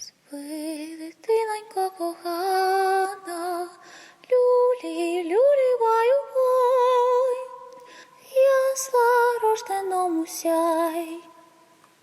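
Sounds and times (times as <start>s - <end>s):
woman singing unaccompanied: 0.0s - 11.7s.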